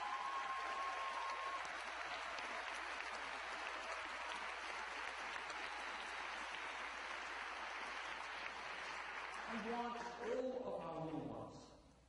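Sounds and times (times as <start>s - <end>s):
audience applauding in large hall: 0.0s - 11.3s.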